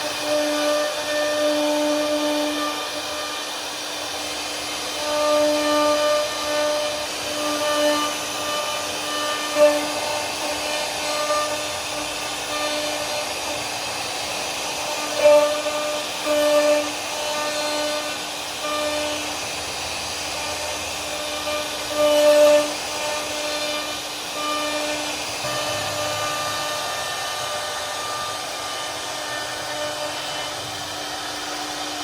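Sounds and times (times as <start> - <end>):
bit carving wood: 0.0 - 32.0
router spindle whining: 0.0 - 32.0.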